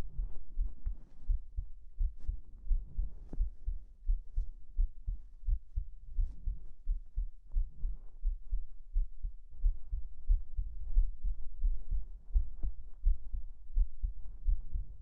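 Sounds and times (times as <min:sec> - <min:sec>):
heartbeat thumps: 0:00.0 - 0:15.0.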